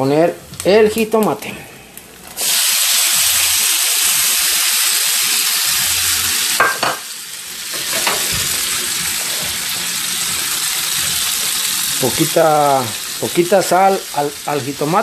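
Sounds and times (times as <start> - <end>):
food sizzling in frying pan: 0.4 - 15.0.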